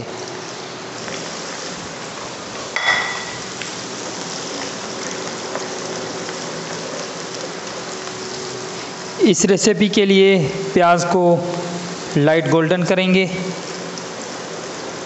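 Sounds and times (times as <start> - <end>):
onions sizzling in hot fat: 0.1 - 12.2, 12.9 - 15.0.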